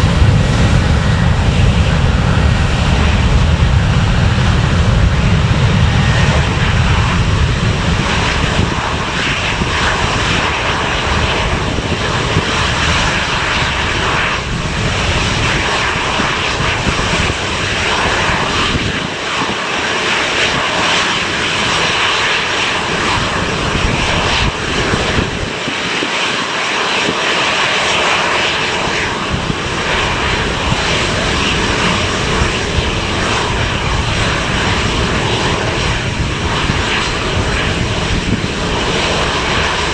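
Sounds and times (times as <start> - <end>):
airliner engines roaring: 0.0 - 39.9.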